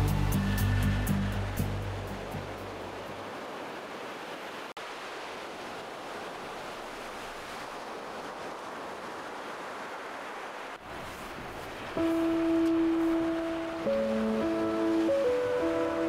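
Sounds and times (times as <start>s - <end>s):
sea surf on shore: 0.0s - 16.0s.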